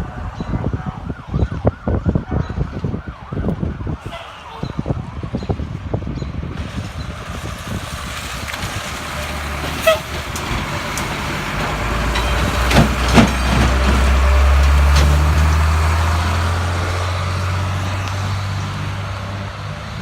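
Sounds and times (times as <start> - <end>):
diesel fire truck driving past: 0.0 - 20.0.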